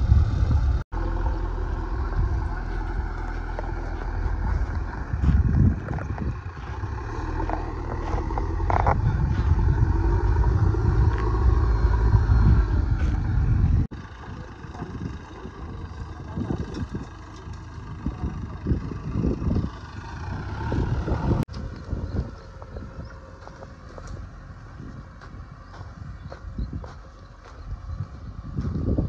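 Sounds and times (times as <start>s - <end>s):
diesel engine rumbling under load: 0.0s - 29.0s.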